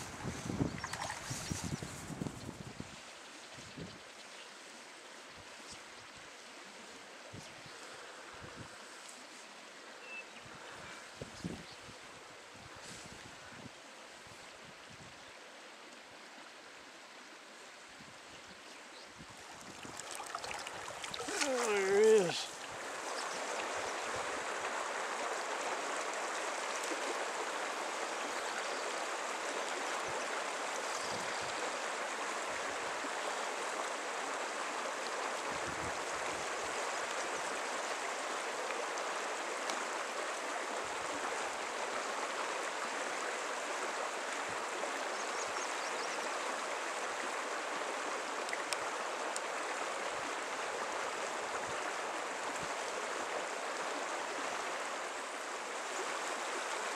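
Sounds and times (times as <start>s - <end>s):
creek water running: 0.0s - 56.9s.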